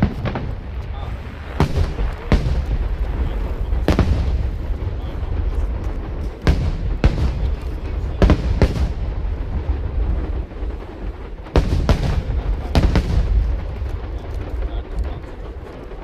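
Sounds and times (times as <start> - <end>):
fireworks booming: 0.0 - 16.0
low rumble of distant fireworks: 0.0 - 16.0.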